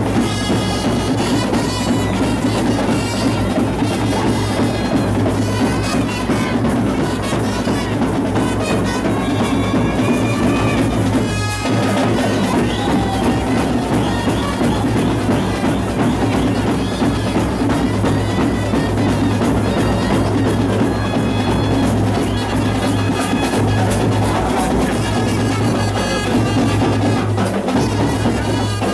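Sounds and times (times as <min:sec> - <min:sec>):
steady drumming: 0:00.0 - 0:28.9
trumpets and clarinet melody: 0:00.0 - 0:28.9.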